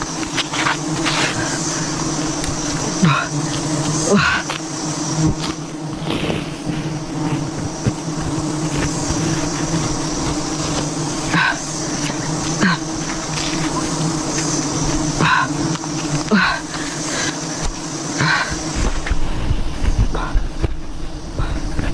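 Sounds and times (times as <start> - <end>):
bees buzzing: 0.0 - 21.9.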